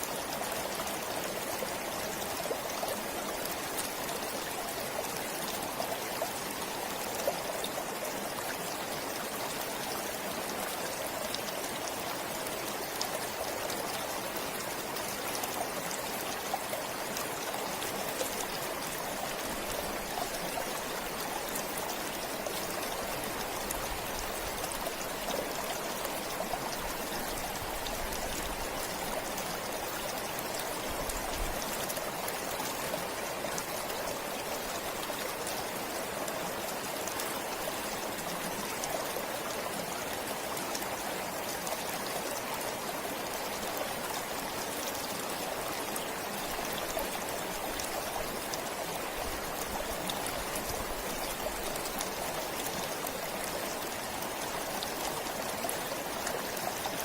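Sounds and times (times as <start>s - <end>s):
stream splashing over stones: 0.0s - 57.0s.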